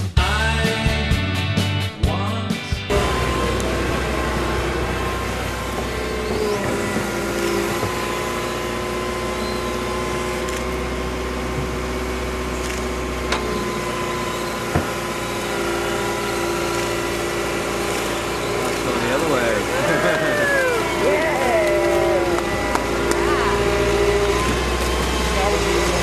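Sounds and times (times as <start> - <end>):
excavator diesel engine running: 0.0 - 26.0
steady whine: 0.0 - 26.0.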